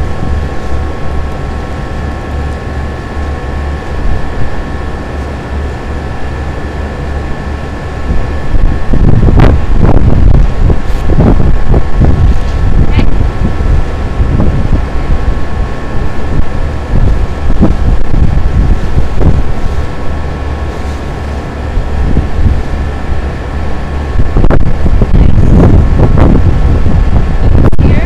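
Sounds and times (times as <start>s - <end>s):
machine hum: 0.0s - 28.0s
wind buffeting microphone: 0.0s - 28.0s.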